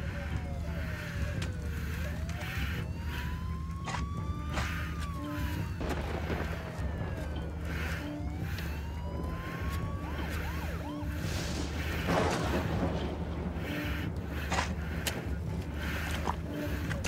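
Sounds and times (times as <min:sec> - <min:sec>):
gliding wailing tones: 0:00.0 - 0:17.0
low pulsing drone: 0:00.0 - 0:17.0.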